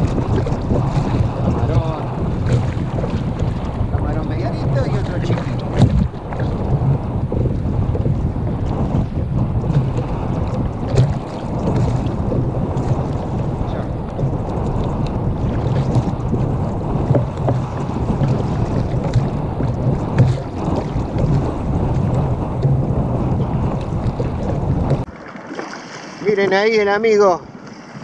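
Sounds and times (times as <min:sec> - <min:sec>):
wind buffeting microphone: 0:00.0 - 0:25.1
water slapping against kayak hull: 0:00.0 - 0:28.0.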